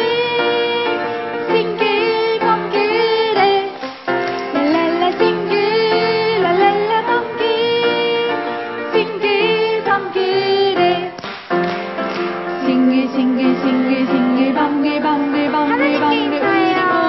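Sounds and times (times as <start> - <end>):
voices singing worship song: 0.0 - 11.4, 12.3 - 17.0
instrumental backing: 0.0 - 17.0.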